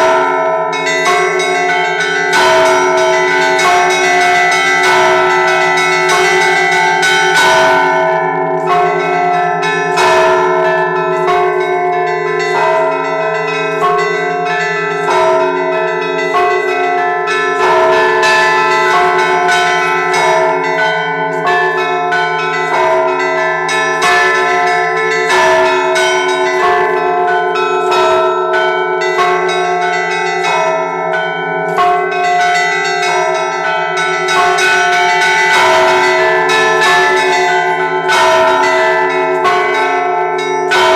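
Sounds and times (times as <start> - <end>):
larger bells ringing: 0.0 - 40.9
small bells in quick rhythm: 0.0 - 40.9.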